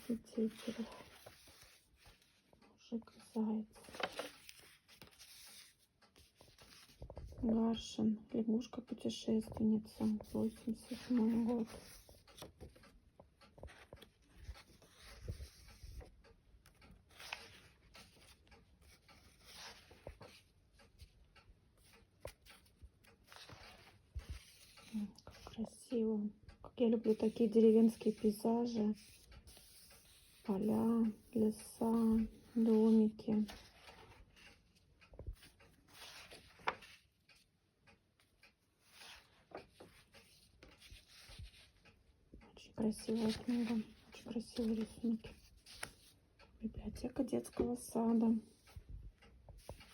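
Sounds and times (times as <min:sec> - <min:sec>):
book pages rustling: 0:00.0 - 0:07.6, 0:09.5 - 0:25.7, 0:27.0 - 0:37.5, 0:38.2 - 0:42.0, 0:42.8 - 0:46.2, 0:49.5 - 0:49.9.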